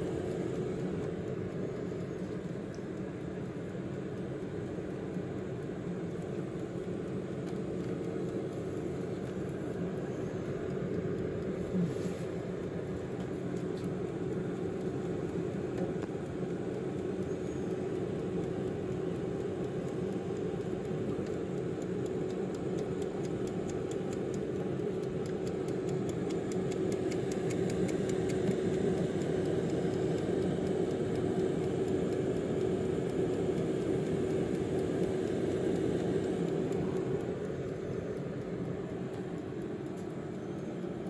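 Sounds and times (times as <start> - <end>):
air fryer fan hum: 0.0 - 41.0
timer dial clicks: 0.0 - 41.0.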